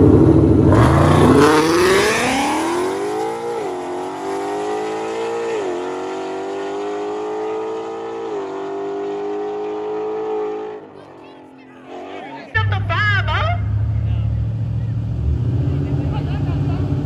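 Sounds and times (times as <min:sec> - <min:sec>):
drag car engines accelerating: 0:00.0 - 0:17.0
engine note rising and dropping at upshifts: 0:00.0 - 0:17.0.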